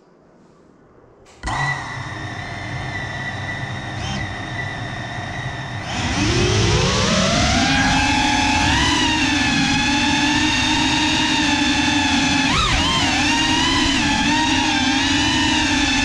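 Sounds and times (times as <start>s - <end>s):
drone motors whining: 1.4s - 16.0s.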